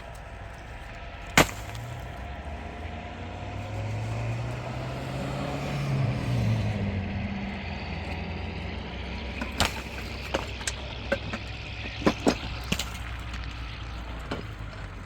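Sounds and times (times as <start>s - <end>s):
tractor engine idling: 0.0s - 4.6s, 6.6s - 15.0s.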